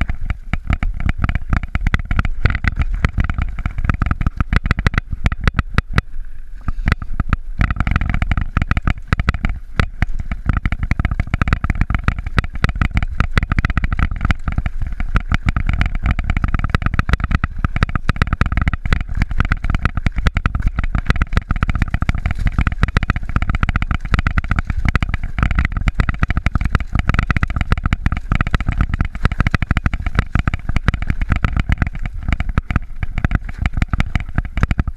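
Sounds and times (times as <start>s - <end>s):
bike rattles and knocks: 0.0s - 34.9s
wind rumbling on microphone: 0.0s - 34.9s.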